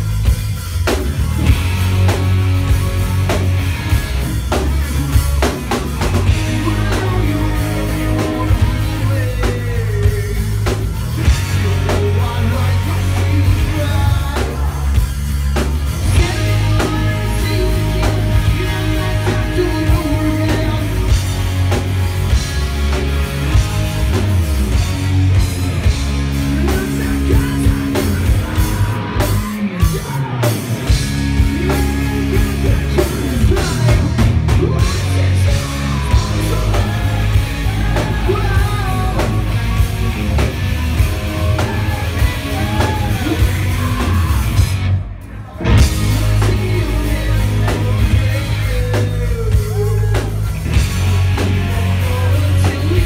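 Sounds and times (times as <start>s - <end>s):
hard rock band playing: 0.0s - 53.0s
vocals: 0.0s - 53.0s.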